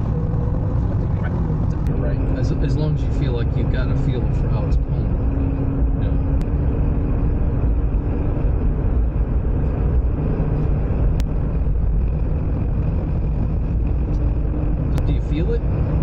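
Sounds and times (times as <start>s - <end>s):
faint hum: 0.0s - 16.0s
in-cabin road and engine rumble: 0.0s - 16.0s.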